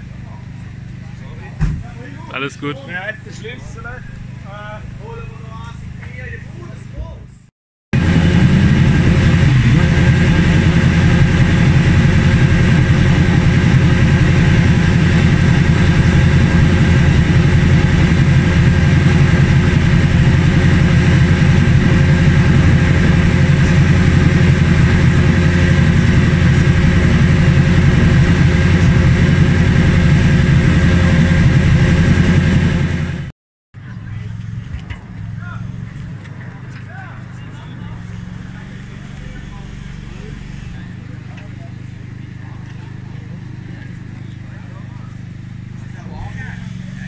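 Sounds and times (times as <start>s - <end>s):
racing engine idling: 0.0s - 7.4s, 8.0s - 47.0s.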